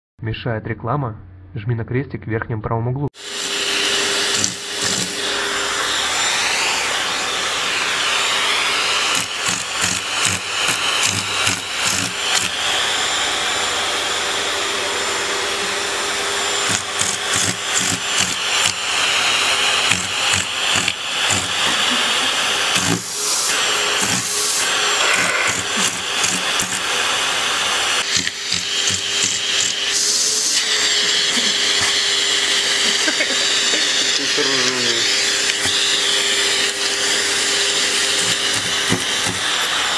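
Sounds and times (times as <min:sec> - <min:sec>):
vacuum cleaner running: 0:03.2 - 0:39.9.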